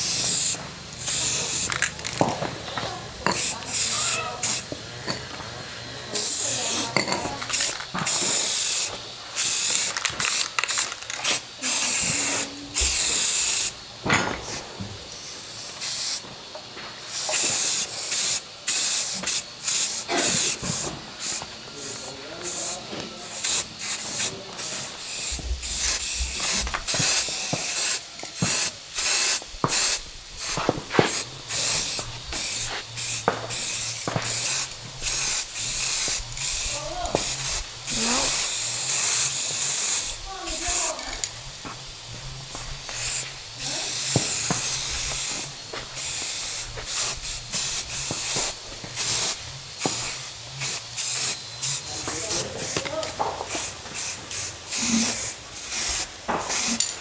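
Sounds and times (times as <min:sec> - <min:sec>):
spraying hiss bursts: 0:00.0 - 0:57.0.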